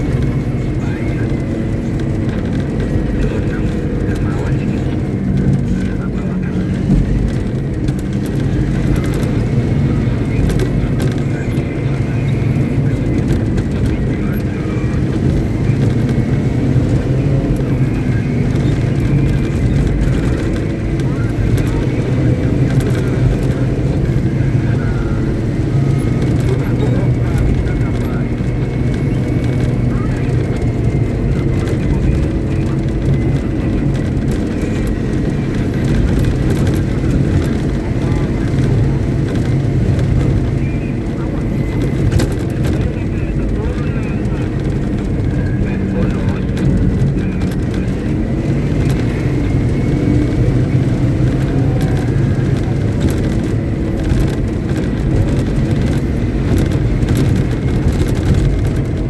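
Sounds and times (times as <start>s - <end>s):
haul truck diesel engine rumbling: 0.0s - 59.0s.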